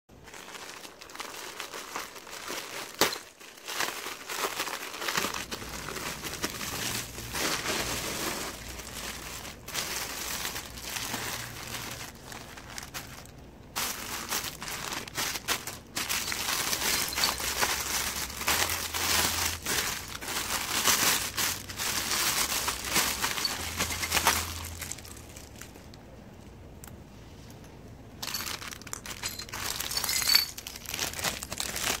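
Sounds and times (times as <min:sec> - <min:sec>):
plastic packaging crinkling: 0:00.1 - 0:26.1, 0:28.2 - 0:32.0.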